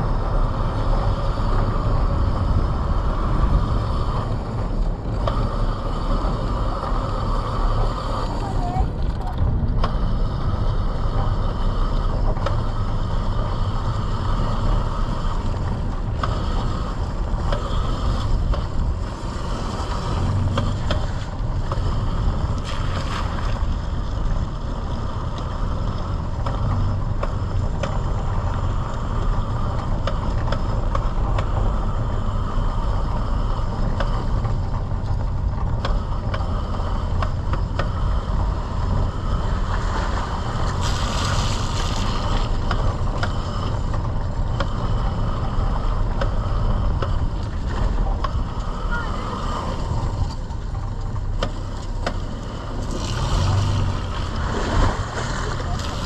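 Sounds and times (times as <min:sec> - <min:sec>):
wind and riding rumble: 0:00.0 - 0:56.0.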